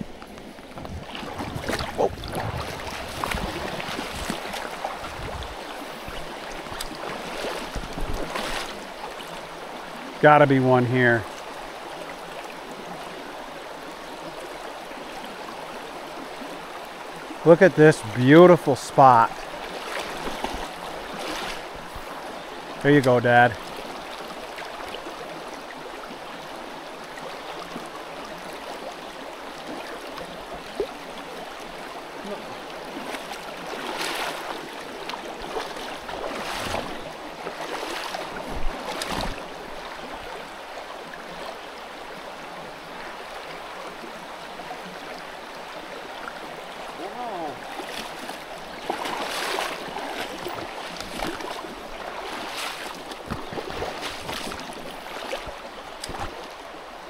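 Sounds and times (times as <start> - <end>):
legs wading through water: 0.0 - 42.6, 43.5 - 57.0
creek water flowing over stones: 0.0 - 57.0.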